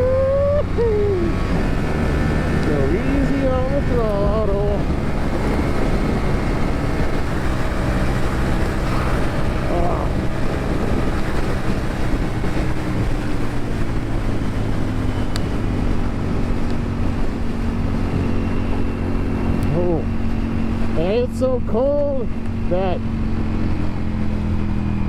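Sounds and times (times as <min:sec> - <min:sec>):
motorcycle engine running: 0:00.0 - 0:25.0
wind noise on microphone: 0:00.0 - 0:25.0.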